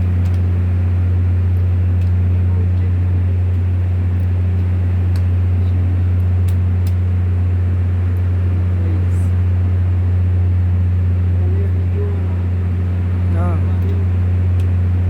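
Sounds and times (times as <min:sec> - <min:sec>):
diesel generator engine droning: 0:00.0 - 0:15.0.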